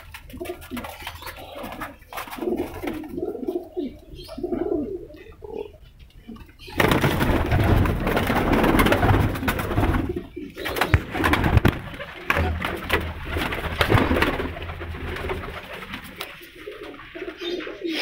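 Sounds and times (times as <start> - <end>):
pigeons flapping wings: 0.0 - 3.4, 6.7 - 18.0
pigeons cooing: 0.0 - 18.0.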